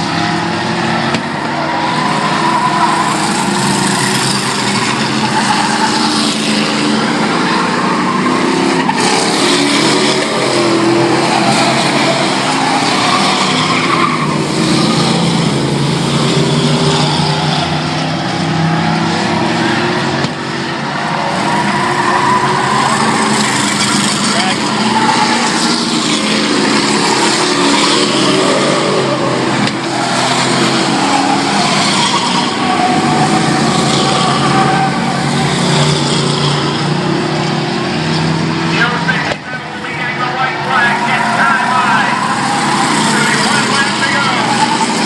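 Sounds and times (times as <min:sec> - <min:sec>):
race truck engines passing: 0:00.0 - 0:45.0.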